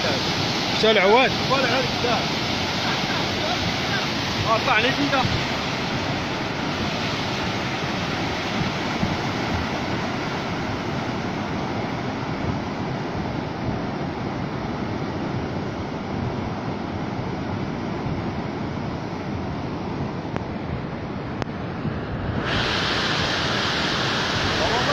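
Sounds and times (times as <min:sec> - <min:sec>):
floodwater rushing: 0:00.0 - 0:24.9
wind on microphone: 0:00.0 - 0:24.9.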